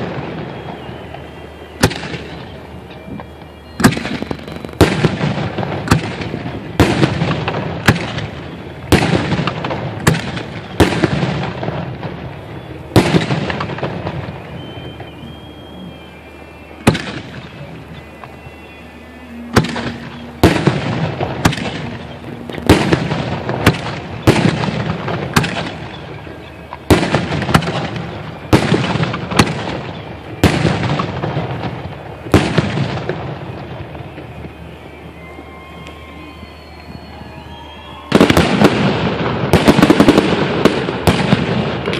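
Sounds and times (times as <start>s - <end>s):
fireworks bangs with echo: 0.0s - 41.9s.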